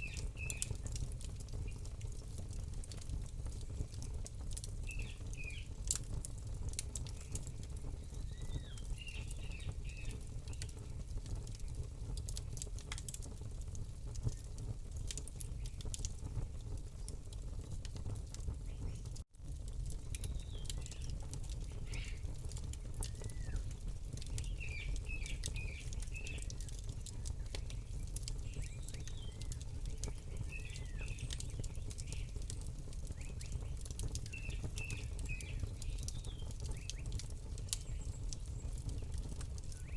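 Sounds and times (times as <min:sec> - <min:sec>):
small birds chirping: 0:00.0 - 0:02.0, 0:02.9 - 0:06.0, 0:06.7 - 0:12.6, 0:15.3 - 0:17.3, 0:18.6 - 0:19.2, 0:19.9 - 0:39.9
campfire crackling and popping: 0:00.0 - 0:39.9.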